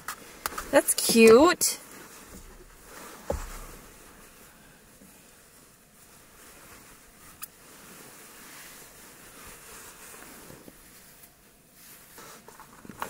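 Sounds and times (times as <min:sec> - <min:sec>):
steady low hiss: 0:00.0 - 0:12.8
fabric rustling: 0:00.2 - 0:12.9.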